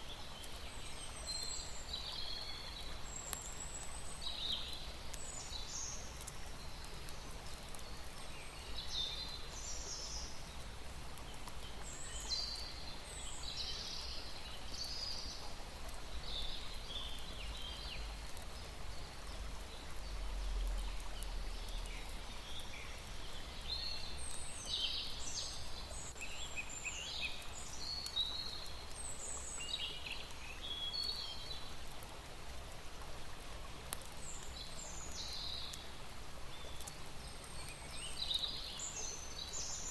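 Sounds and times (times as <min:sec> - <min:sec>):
small birds twittering: 0:00.0 - 0:31.8, 0:33.7 - 0:39.9.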